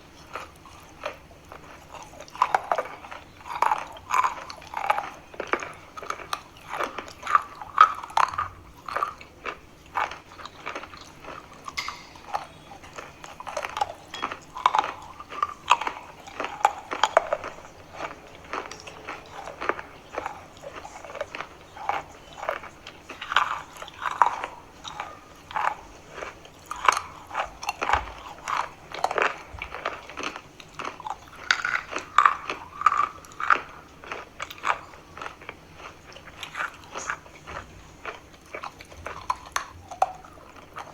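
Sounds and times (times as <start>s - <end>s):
person chewing chalk crunches: 0.2s - 40.9s.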